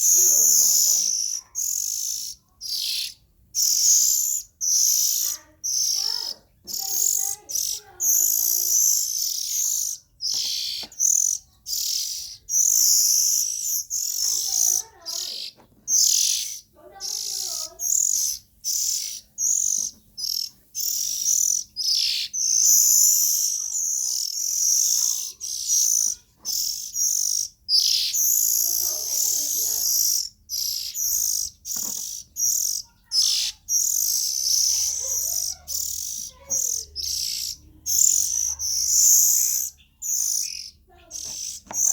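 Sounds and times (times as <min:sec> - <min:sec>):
bird chirping: 0:00.0 - 0:41.9.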